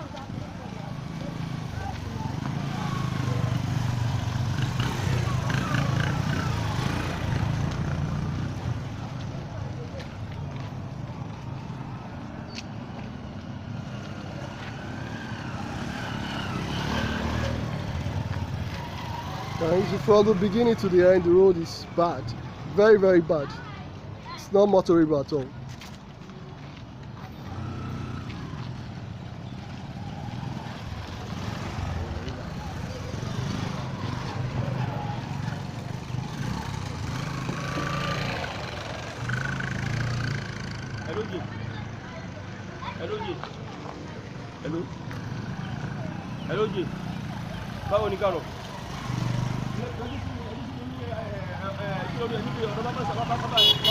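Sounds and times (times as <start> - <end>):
street traffic noise: 0.0 - 53.9
vehicle engine and road rumble: 0.0 - 53.9.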